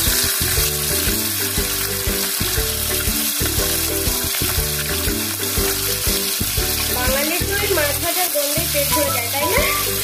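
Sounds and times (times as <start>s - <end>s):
background music: 0.0s - 10.0s
fish sizzling in hot oil: 0.0s - 10.0s.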